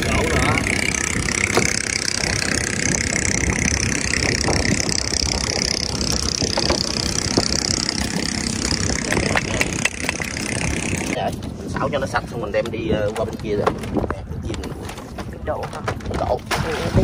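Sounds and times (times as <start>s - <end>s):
boat engine running: 0.0s - 14.5s.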